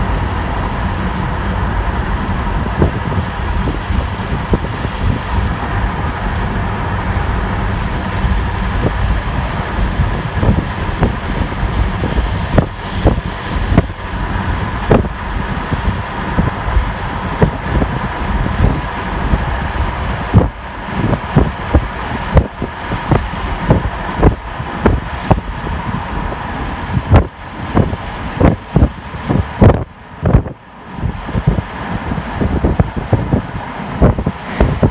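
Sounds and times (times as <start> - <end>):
vehicle rumble: 0.0 - 34.9.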